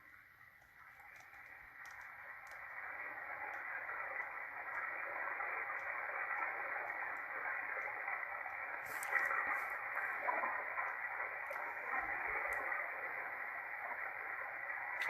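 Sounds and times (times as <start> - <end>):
radio static hissing: 0.0 - 15.0.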